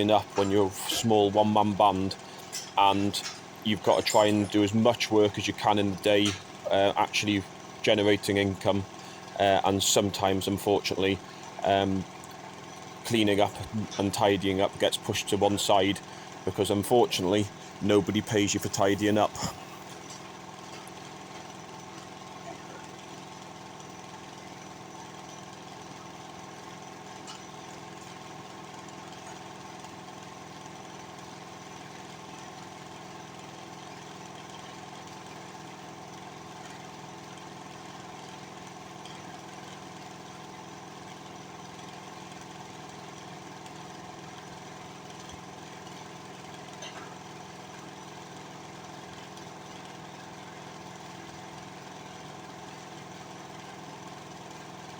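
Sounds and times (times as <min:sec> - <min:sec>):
air compressor running: 0:00.0 - 0:07.9, 0:08.5 - 0:10.0, 0:11.1 - 0:54.9.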